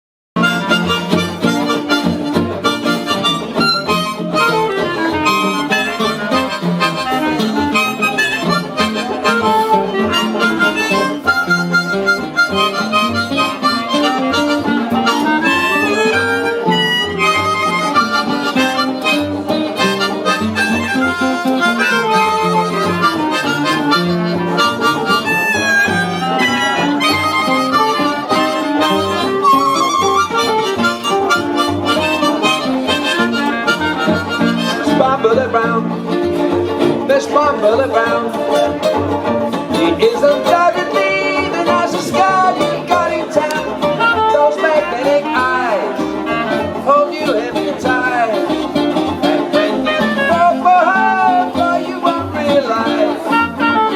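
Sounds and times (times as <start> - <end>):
guitar: 0.4 - 53.9
harmonica melody: 0.4 - 53.9.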